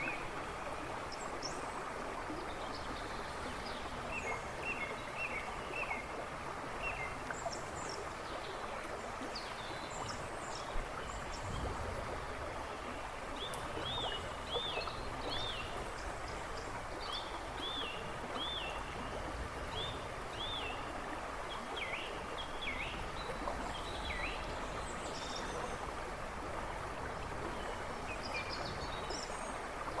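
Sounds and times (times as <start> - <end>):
river rushing and babbling: 0.0 - 30.0.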